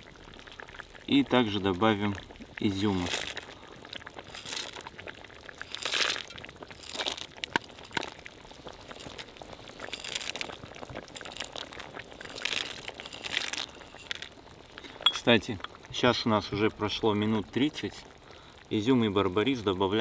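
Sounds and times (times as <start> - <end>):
raisins pattering into broth: 0.0 - 20.0.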